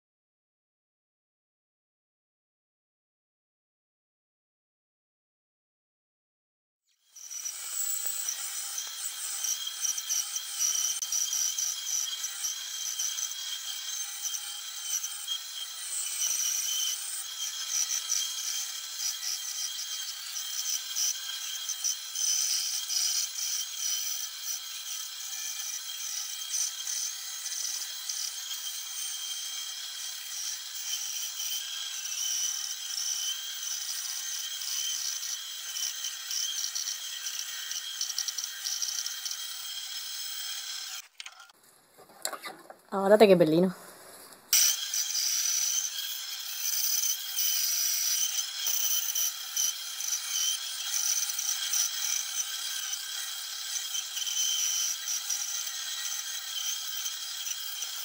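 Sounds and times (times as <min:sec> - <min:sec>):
bandsaw cutting wood: 0:07.1 - 0:41.5, 0:44.5 - 0:58.0.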